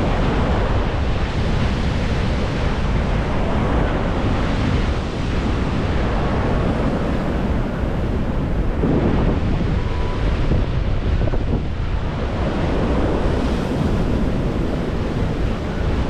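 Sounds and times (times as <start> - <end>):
sea surf rushing: 0.0 - 16.0
wind buffeting microphone: 0.0 - 16.0.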